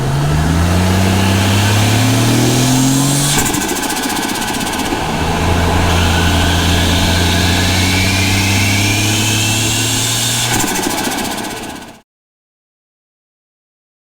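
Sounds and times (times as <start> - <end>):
car engine under load: 0.0 - 12.0
turbo flutter: 0.0 - 12.0
turbo spool whistle: 0.0 - 12.0.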